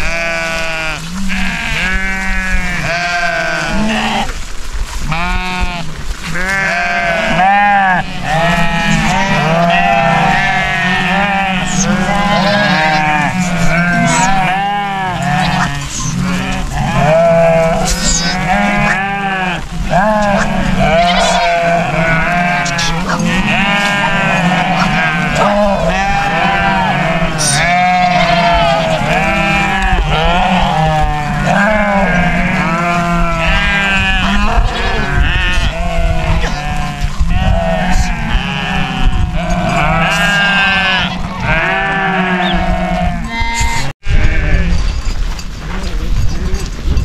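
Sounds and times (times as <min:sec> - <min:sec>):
flock of sheep bleating: 0:00.0 - 0:04.4, 0:05.0 - 0:44.8.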